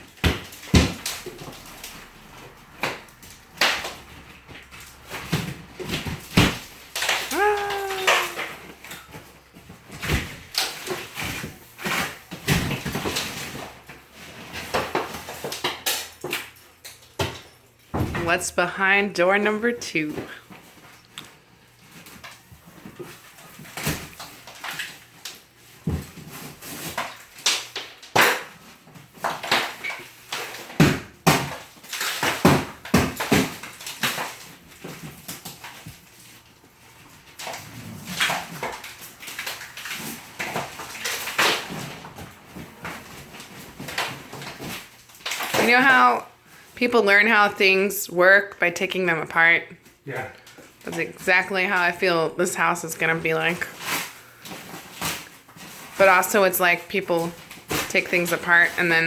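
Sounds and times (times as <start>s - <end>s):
knocks and scrapes of wall pieces: 0.0s - 19.6s, 20.2s - 59.0s.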